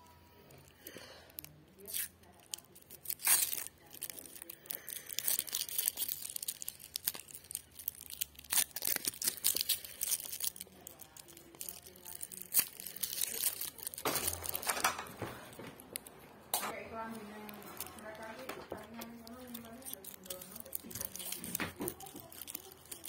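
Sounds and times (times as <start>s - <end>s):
wrapper tearing and crinkling: 0.6s - 15.2s, 15.8s - 23.0s
wrapper rustle: 1.4s - 23.0s.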